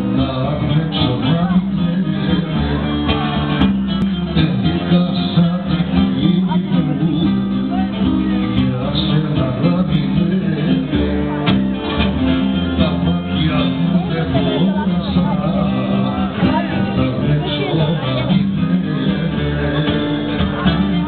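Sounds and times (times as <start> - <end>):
plucked string instruments playing: 0.0 - 21.0.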